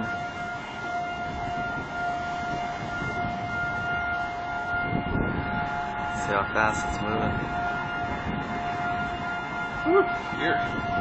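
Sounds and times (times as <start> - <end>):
warning siren steady tone: 0.0 - 11.0
wind and rain rushing: 0.0 - 11.0.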